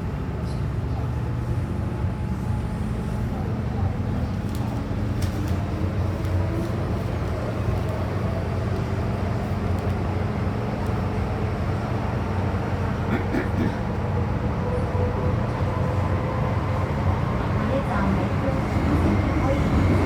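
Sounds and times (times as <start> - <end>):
train low rumble inside carriage: 0.0 - 20.0.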